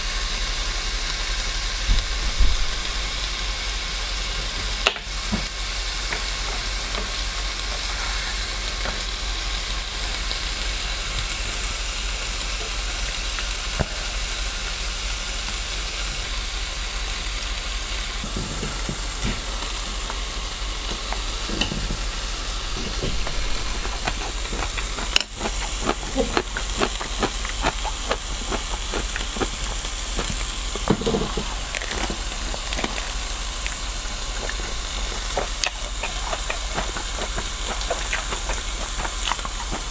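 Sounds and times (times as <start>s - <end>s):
meat sizzling on grill pan: 0.0s - 39.9s.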